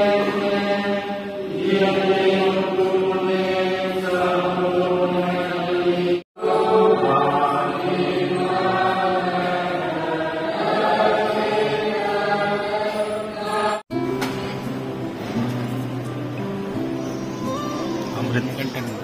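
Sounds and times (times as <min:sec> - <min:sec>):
congregation singing a hymn: 0:00.0 - 0:15.4.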